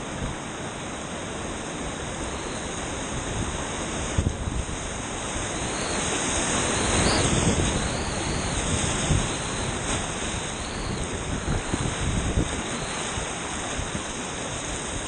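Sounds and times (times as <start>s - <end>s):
rushing creek whitewater: 0.0s - 15.0s.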